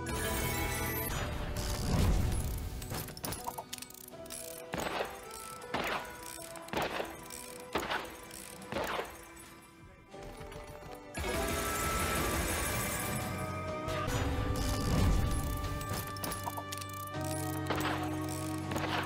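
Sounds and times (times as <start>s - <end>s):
western-style game music: 0.0s - 19.0s.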